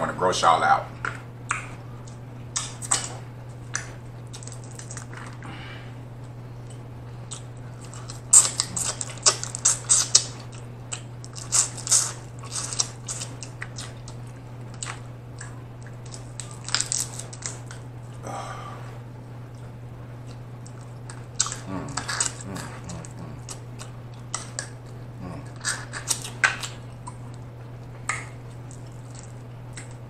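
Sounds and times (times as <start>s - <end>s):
steady low hum: 0.0s - 30.0s
chewing with wet smacks: 0.9s - 5.4s, 6.1s - 18.2s, 19.2s - 30.0s
crab shell cracking: 1.0s - 5.4s, 7.4s - 17.9s, 20.3s - 30.0s.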